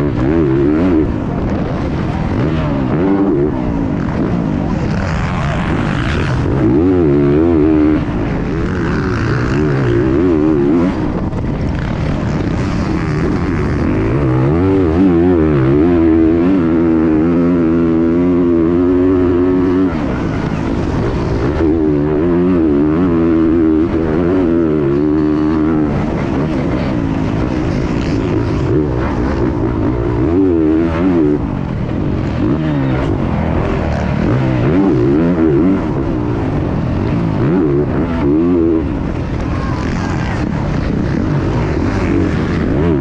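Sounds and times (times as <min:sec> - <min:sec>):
motocross engine revving: 0:00.0 - 0:43.0.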